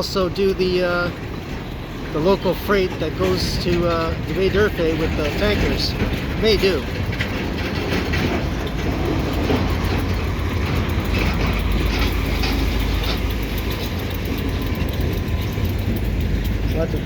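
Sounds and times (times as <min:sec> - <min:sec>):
diesel locomotives rumbling: 0:00.0 - 0:17.0.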